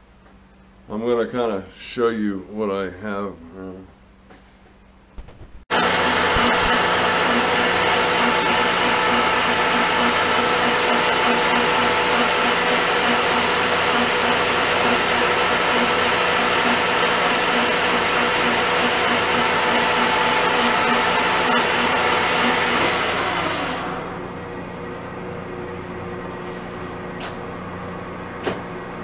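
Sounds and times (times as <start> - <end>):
lathe whirring: 5.7 - 29.0.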